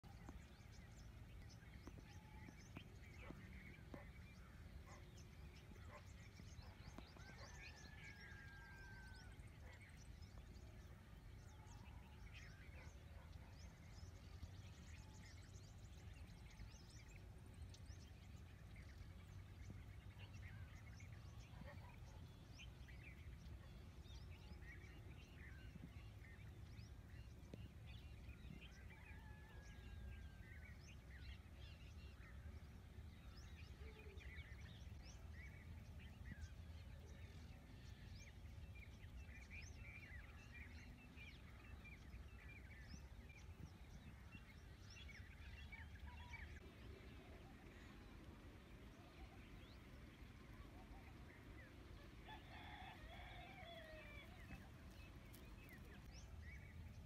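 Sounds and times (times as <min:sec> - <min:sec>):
low outdoor rumble: 0:00.0 - 0:57.0
small birds chirping: 0:00.0 - 0:57.0.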